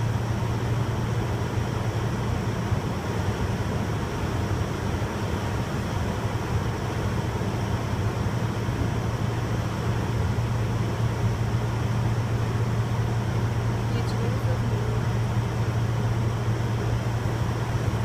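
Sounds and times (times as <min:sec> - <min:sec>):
airliner cabin engine hum: 0:00.0 - 0:18.0.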